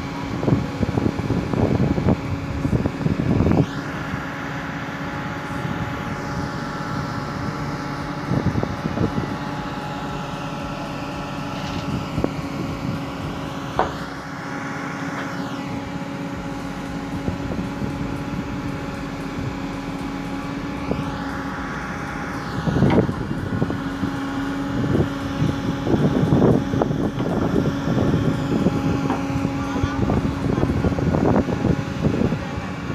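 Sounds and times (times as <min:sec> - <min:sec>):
excavator engine running: 0:00.0 - 0:32.9
hydraulic whine: 0:00.0 - 0:32.9.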